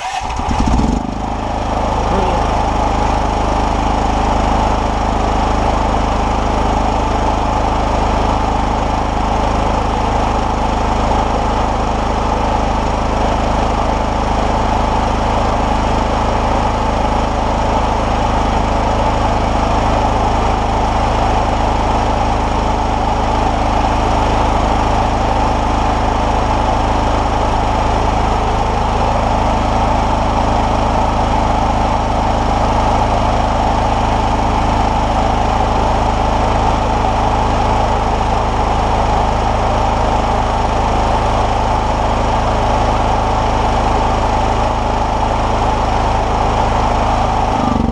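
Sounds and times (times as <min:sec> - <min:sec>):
generator engine running: 0:00.0 - 0:47.9.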